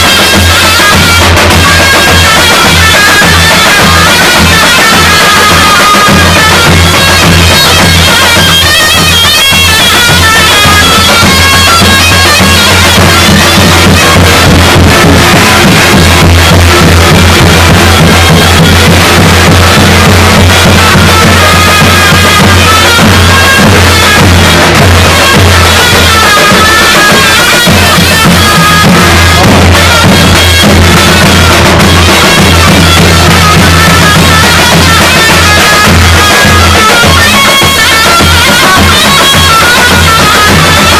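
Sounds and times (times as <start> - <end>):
bass drum beat: 0.0 - 40.9
shrill shawm melody: 0.0 - 40.9.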